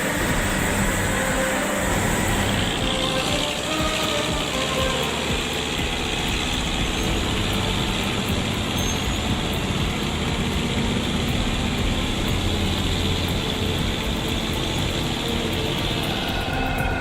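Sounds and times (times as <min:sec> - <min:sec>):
heavy truck engine running: 0:00.0 - 0:17.0
road noise: 0:00.0 - 0:17.0.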